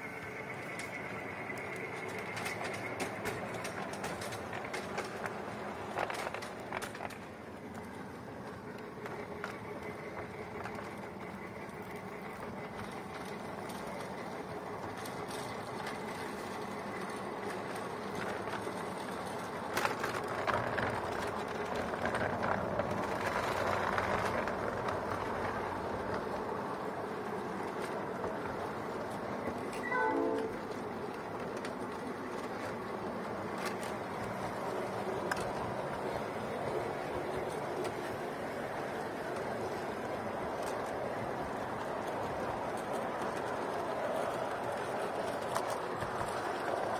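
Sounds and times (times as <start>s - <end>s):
rail clicks: 0.0s - 46.9s
train wheels rumbling on rail: 0.0s - 46.9s.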